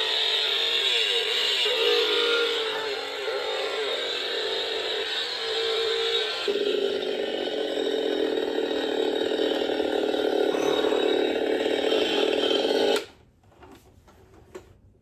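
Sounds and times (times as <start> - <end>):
toy chainsaw running: 0.0 - 13.1.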